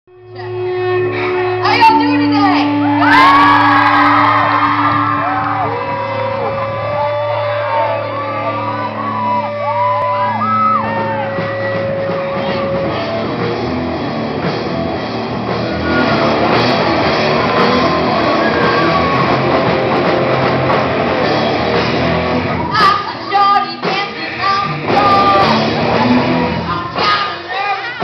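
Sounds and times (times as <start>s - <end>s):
electric guitar bending notes: 0.1s - 27.0s
rock band playing: 0.2s - 28.0s.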